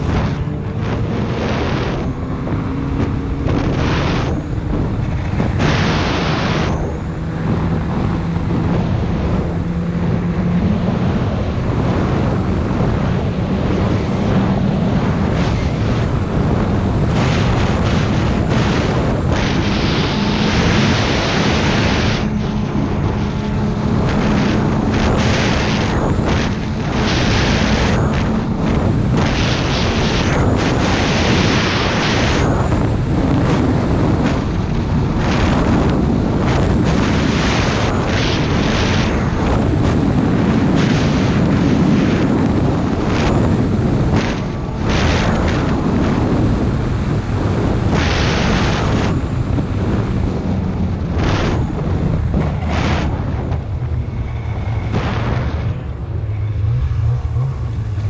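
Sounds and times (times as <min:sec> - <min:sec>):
snowmobile engine running: 0:00.0 - 0:58.0
wind buffeting microphone: 0:00.0 - 0:58.0.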